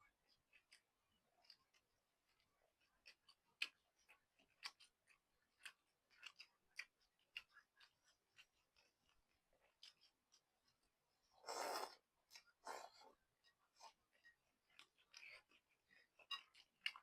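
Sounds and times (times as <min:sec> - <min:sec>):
mouth chewing noodles: 0:00.1 - 0:17.0.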